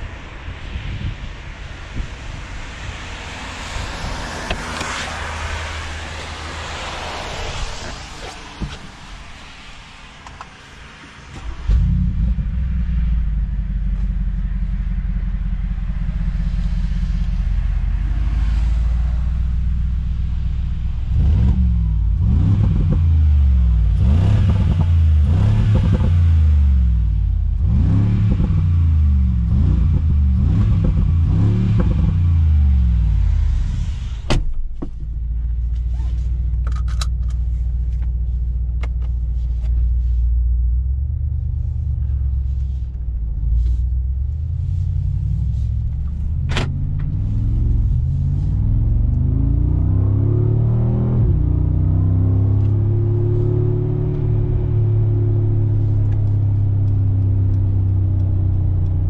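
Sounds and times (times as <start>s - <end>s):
car engine starting and idling: 0.0s - 59.0s
engine revving: 2.0s - 34.3s, 43.6s - 59.0s.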